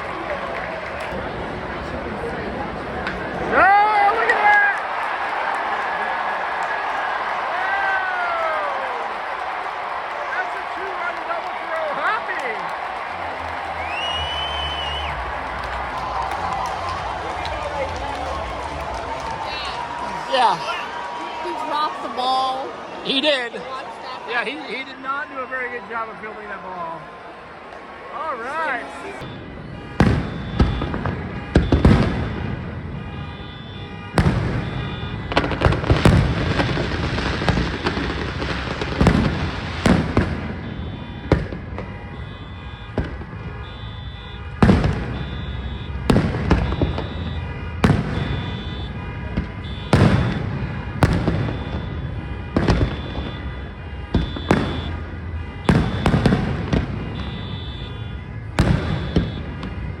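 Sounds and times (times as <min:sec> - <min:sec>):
fireworks booming and crackling: 0:00.0 - 0:21.6, 0:29.2 - 1:00.0.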